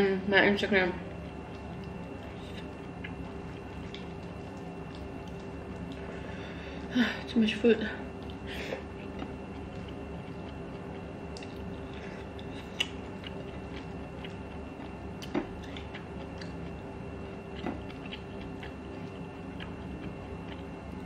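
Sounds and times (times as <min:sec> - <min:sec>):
steady low hum: 0:00.0 - 0:21.0
person chewing with wet mouth sounds: 0:01.1 - 0:06.6, 0:08.1 - 0:21.0.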